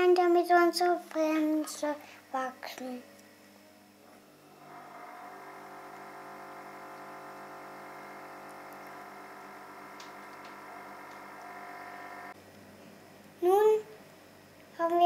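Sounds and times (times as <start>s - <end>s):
faint machine hum: 0.0s - 15.0s.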